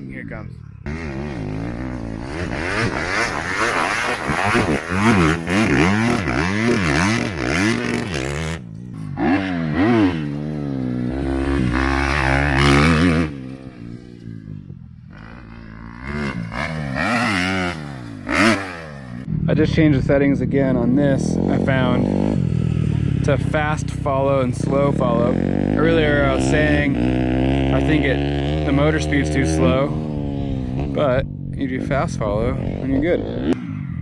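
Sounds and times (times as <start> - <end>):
dirt bike engine revving: 0.7 - 19.6, 20.5 - 34.0.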